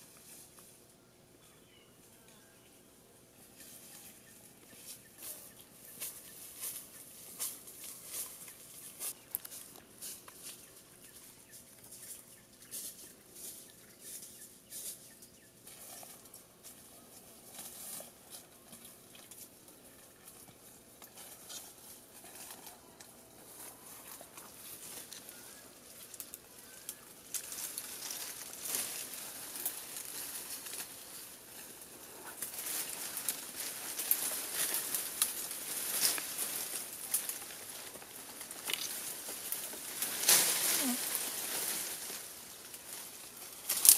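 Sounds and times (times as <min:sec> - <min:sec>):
dry leaves and twigs rustling: 0:00.0 - 0:00.9, 0:03.4 - 0:43.9
bush branches shaken: 0:03.5 - 0:43.9.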